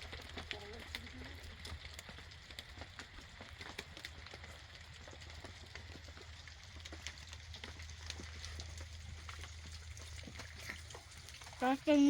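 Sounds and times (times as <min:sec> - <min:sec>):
light rain: 0:00.0 - 0:12.0
raindrops ticking on surfaces: 0:00.0 - 0:12.0.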